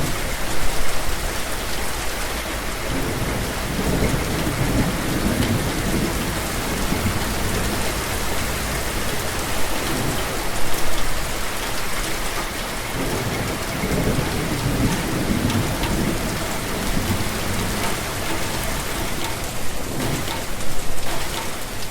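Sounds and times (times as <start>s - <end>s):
rain pattering on surfaces: 0.0s - 21.9s
thunder rumbling: 2.6s - 12.2s, 12.8s - 21.9s.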